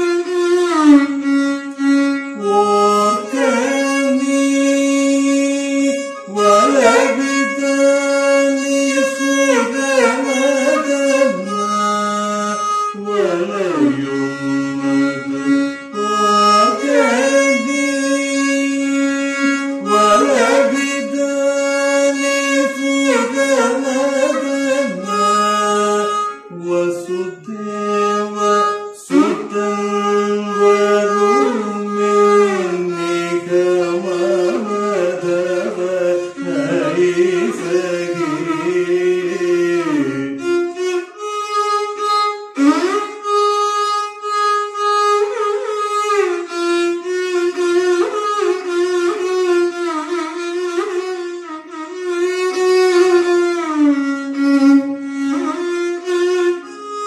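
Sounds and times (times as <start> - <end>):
solo violin melody: 0.0 - 57.0.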